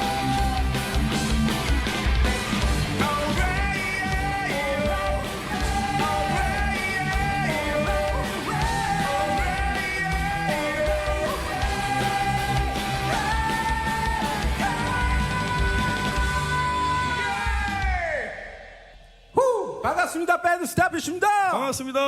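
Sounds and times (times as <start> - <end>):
rock band playing: 0.0 - 17.9.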